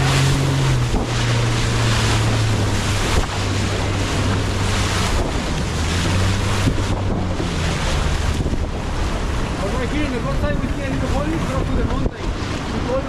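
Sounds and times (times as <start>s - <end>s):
boat engine humming: 0.0s - 13.0s
water rushing past hull: 0.0s - 13.0s
wind buffeting microphone: 0.0s - 13.0s.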